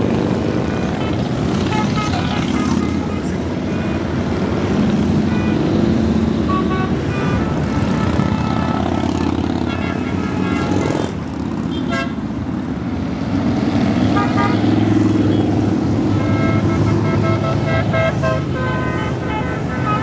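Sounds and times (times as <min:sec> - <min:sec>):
vehicle engines rumbling past: 0:00.0 - 0:20.0.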